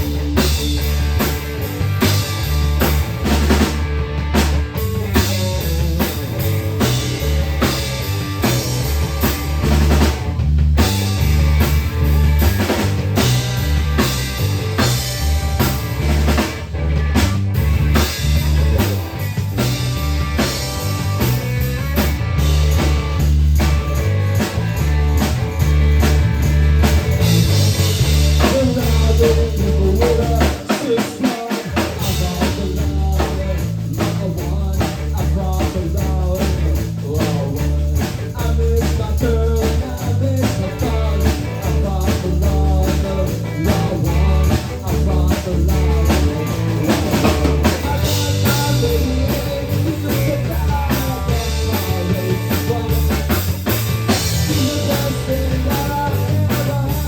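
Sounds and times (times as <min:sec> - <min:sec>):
rock song with singing: 0:00.0 - 0:57.0.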